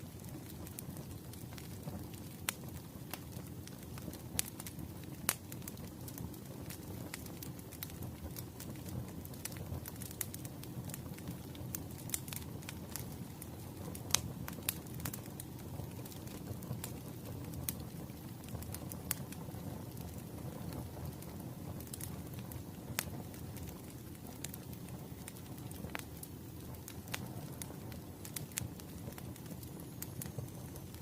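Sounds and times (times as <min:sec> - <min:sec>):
firewood crackling and popping: 0:00.0 - 0:31.0
rumble of flames: 0:00.0 - 0:31.0.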